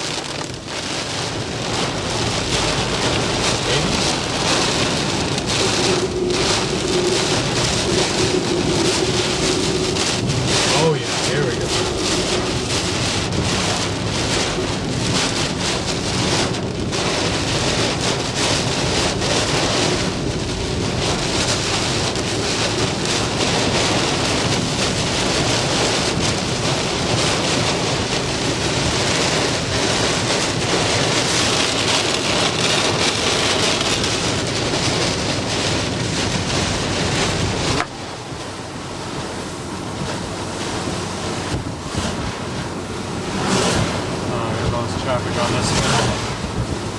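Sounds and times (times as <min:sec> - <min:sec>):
heavy rain: 0:00.0 - 0:46.9
wind gusts buffeting microphone: 0:00.0 - 0:46.9.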